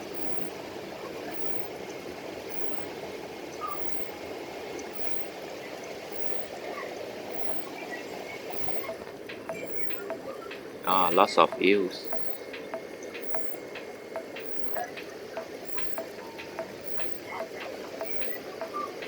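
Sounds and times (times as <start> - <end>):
water trickling in aquarium tanks: 0.0 - 19.0.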